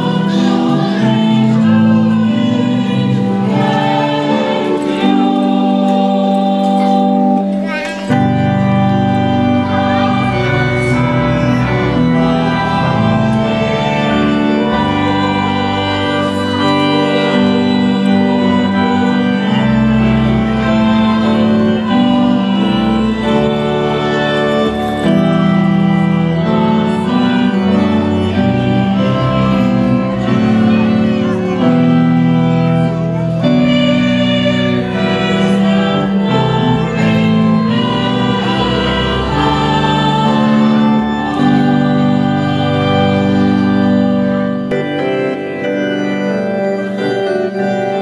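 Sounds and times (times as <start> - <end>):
organ playing held chords: 0.0 - 48.0.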